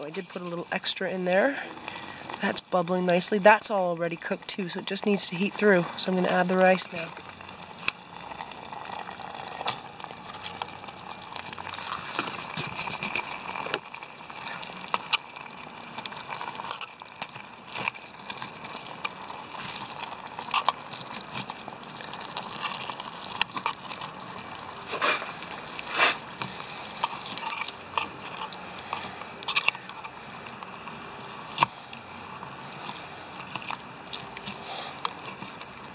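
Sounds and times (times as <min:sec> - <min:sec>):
food simmering in a cup: 0:00.0 - 0:35.9.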